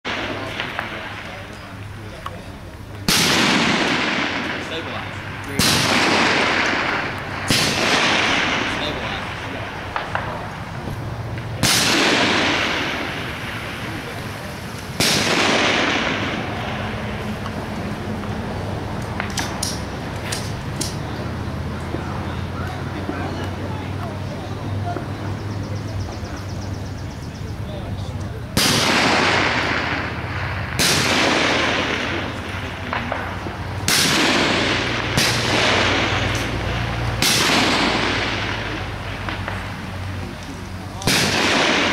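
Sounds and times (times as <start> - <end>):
rifle shots with echo: 0.1 - 23.5, 28.1 - 41.9.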